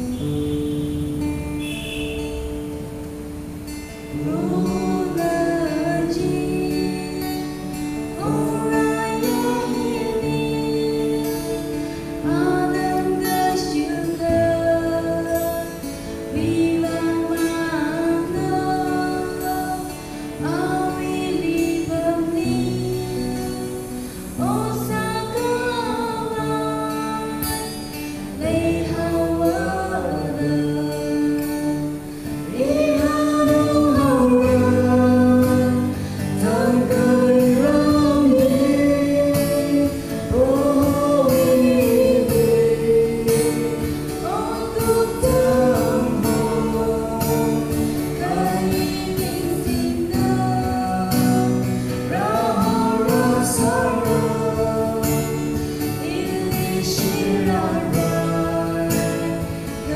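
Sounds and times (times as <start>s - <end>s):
acoustic guitar: 0.0s - 59.9s
woman singing slow song: 0.0s - 59.9s.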